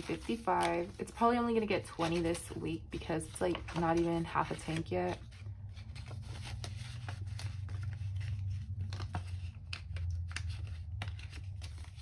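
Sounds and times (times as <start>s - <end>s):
banknotes rustling: 0.0s - 12.0s
plastic envelope crinkling: 0.0s - 12.0s.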